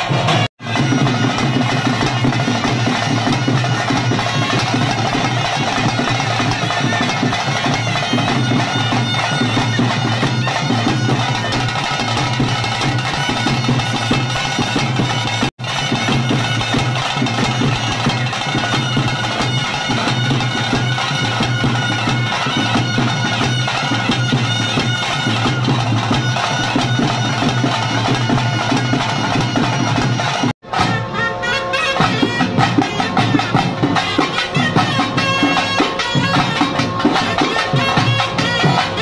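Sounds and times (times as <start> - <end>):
double-reed pipe melody: 0.0 - 39.0
percussion strokes: 0.0 - 39.0.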